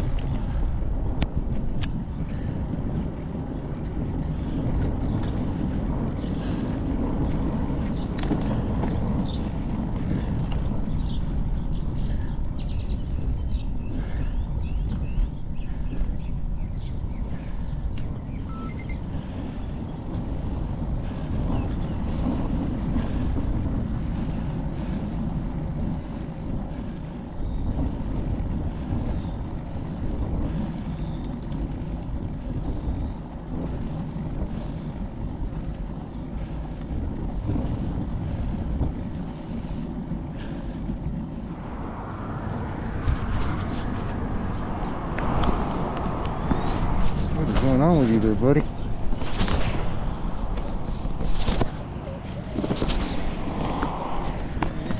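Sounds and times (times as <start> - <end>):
road noise: 0.0 - 54.9
wind buffeting microphone: 0.0 - 54.9.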